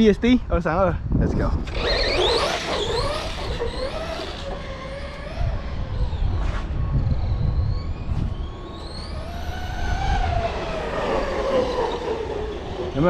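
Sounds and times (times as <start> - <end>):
tyres and drivetrain rumble: 1.4 - 13.0
electric motor whining: 1.6 - 13.0.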